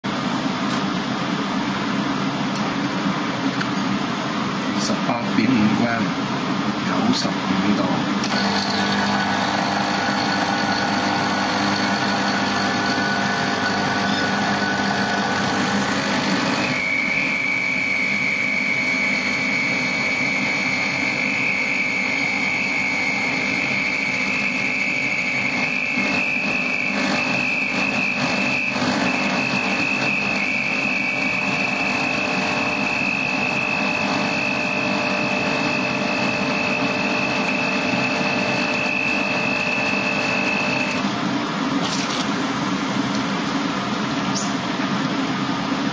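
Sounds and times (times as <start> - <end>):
high steady whine: 0.0 - 45.9
espresso machine pump running: 7.8 - 45.9.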